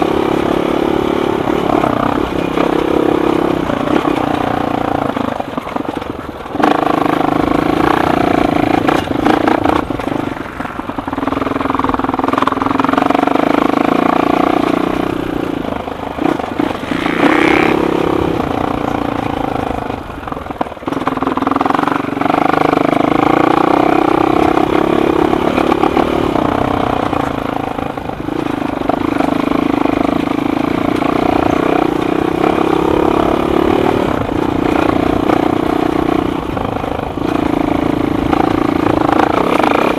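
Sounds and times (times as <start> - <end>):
quad engine revving: 0.0 - 10.4, 11.1 - 39.9.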